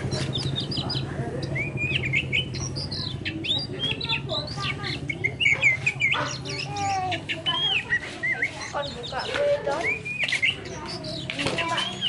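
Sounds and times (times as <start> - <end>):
bird singing chirps and whistles: 0.2 - 12.0.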